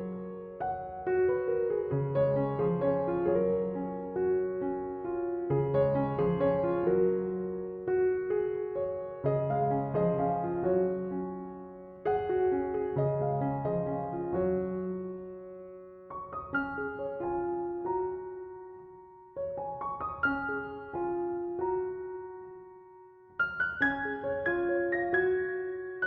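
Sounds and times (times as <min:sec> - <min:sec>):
solo piano melody: 0:00.0 - 0:26.0.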